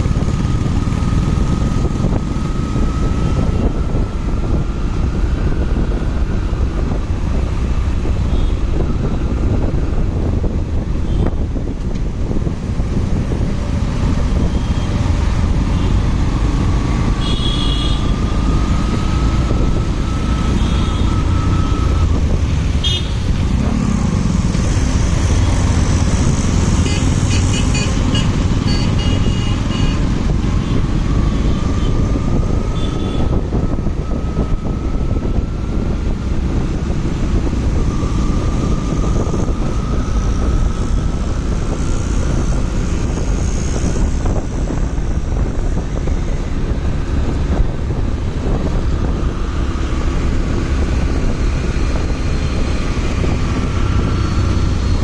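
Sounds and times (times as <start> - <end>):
motorcycle engine whine: 0.0 - 55.0
wind buffeting microphone: 0.0 - 55.0.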